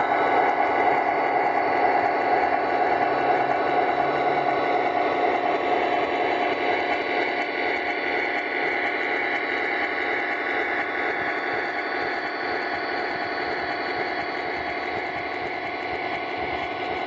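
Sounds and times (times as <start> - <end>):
model train wheels on track: 0.0 - 17.0.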